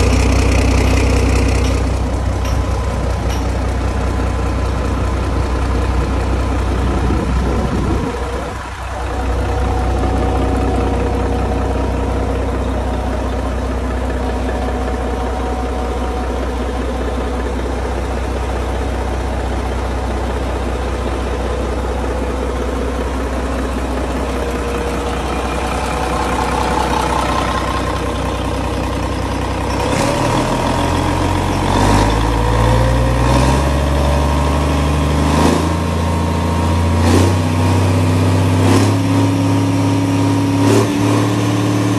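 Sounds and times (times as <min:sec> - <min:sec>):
diesel engine idling and revving: 0:00.0 - 0:41.9.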